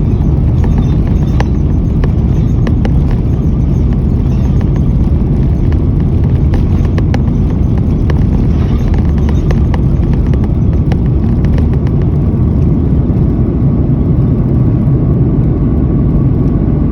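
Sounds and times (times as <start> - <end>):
sharp clicks and rattles: 0.0 - 15.6
jet engines at takeoff: 0.0 - 16.9.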